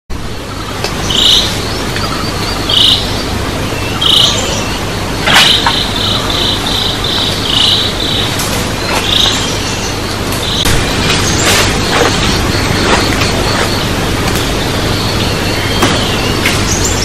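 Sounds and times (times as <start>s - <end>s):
steady background noise: 0.1s - 17.0s
insect chirping: 1.1s - 17.0s.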